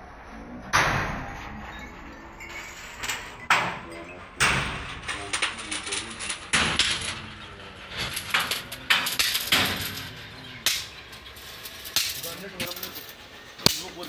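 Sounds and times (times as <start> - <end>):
background voices: 0.0 - 14.0.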